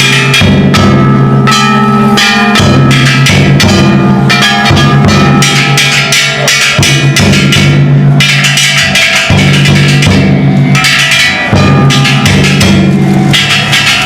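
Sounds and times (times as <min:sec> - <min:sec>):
gongs clanging: 0:00.0 - 0:14.0
large taiko drum strokes: 0:00.0 - 0:14.0.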